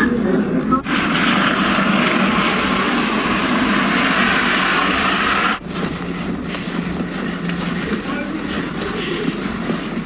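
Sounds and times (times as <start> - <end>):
steady rushing noise: 0.8 - 10.0.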